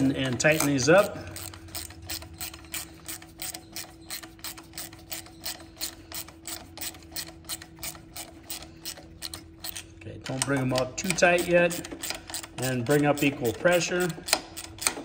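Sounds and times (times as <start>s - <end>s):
ratchet wrench clicking: 0.0s - 15.0s.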